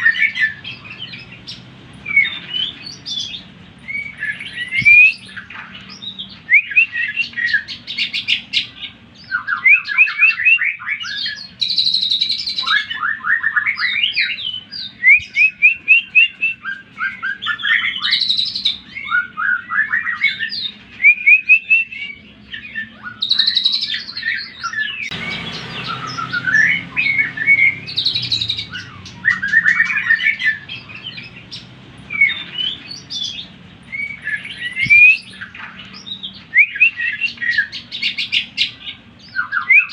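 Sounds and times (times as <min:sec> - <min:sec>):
bird singing trills and whistles: 0:00.0 - 0:39.9
low background noise: 0:00.0 - 0:39.9.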